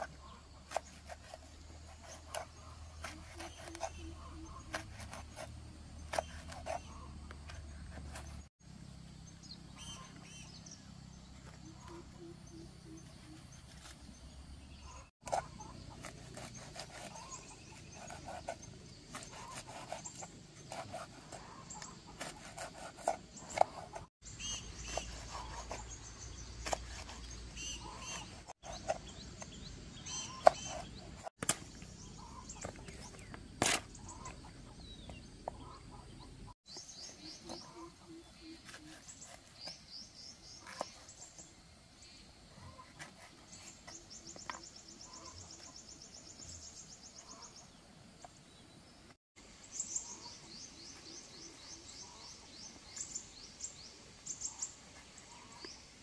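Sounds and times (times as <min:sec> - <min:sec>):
faint birds calling: 0:00.0 - 0:56.0.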